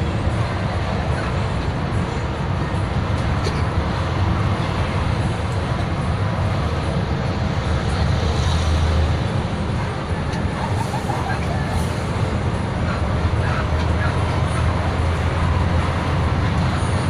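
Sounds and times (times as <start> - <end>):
large vehicle engine running: 0.0 - 17.0
road rumble: 0.0 - 17.0.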